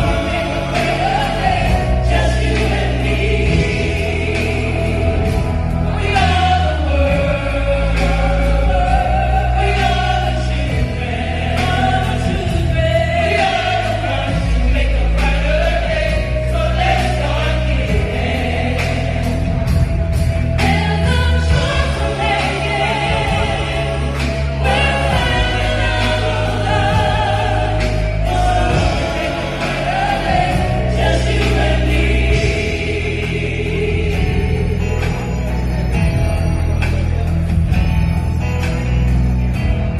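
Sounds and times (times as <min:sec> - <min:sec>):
choir singing gospel: 0:00.0 - 0:39.9
steady bass accompaniment: 0:00.0 - 0:39.9.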